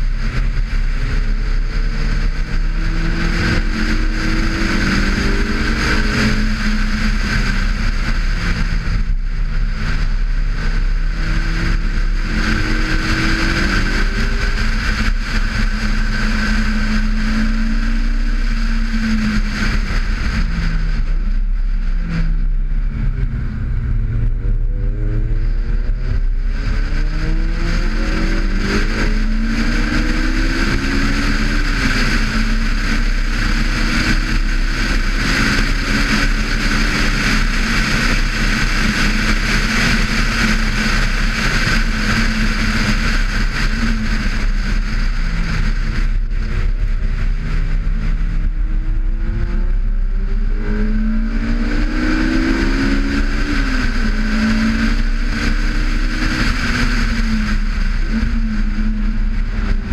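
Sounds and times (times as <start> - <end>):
car engine revving hard: 0.0 - 59.9
wind and road noise: 0.0 - 59.9.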